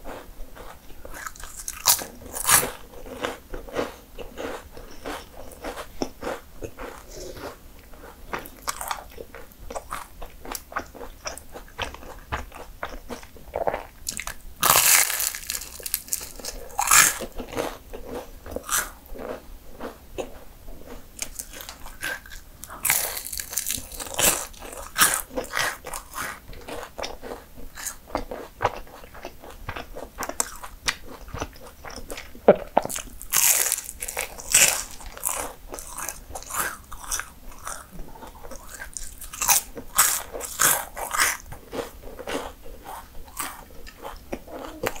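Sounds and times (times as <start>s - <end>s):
crunchy pastry chewing: 0.0s - 45.0s.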